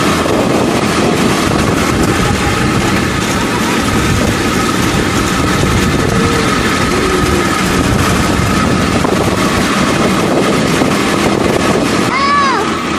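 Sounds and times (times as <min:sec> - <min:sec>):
steel wheels rolling on rails: 0:00.0 - 0:12.9
wind buffeting microphone: 0:00.0 - 0:12.9.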